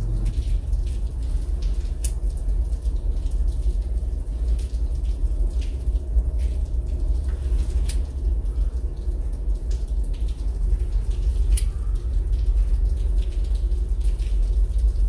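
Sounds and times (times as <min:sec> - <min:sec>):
rain falling and dripping: 0:00.0 - 0:15.0
steady low rumble: 0:00.0 - 0:15.0.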